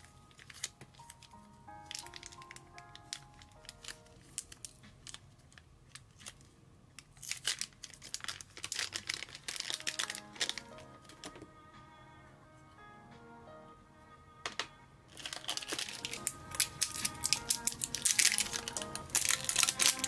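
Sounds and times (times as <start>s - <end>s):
plastic bag crinkling and tearing: 0.0s - 11.4s, 15.1s - 20.0s
soft lo-fi music: 0.0s - 20.0s.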